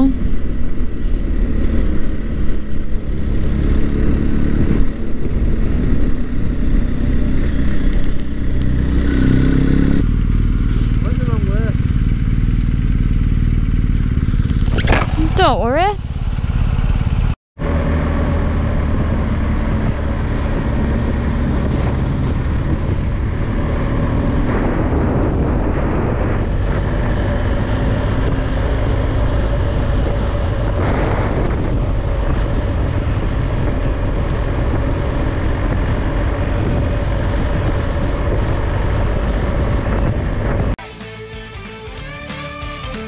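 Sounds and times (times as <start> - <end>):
wind rush on microphone: 0.0 - 11.9, 17.2 - 40.8
motorcycle engine running: 0.0 - 41.6.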